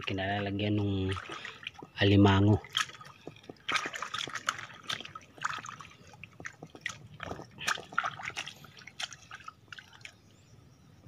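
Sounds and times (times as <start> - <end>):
wet splashes and squelches: 0.0 - 10.2
hands digging in wet mud: 1.0 - 10.1.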